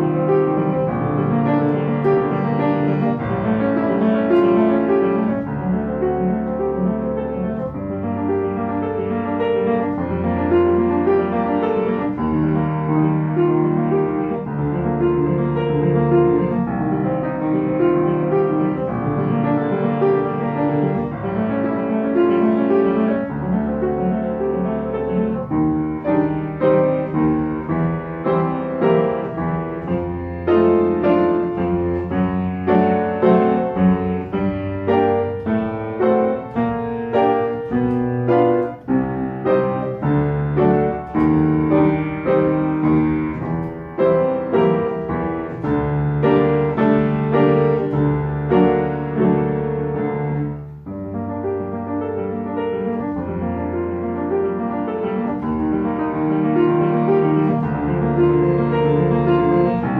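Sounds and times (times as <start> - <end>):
lively solo piano: 0.0 - 59.9.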